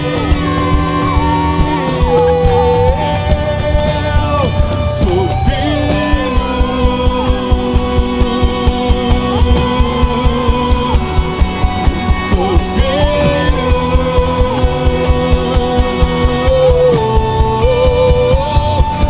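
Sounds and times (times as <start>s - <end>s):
acoustic guitar: 0.0s - 19.0s
steady drum beat: 0.0s - 19.0s
voices singing long notes: 0.0s - 19.0s.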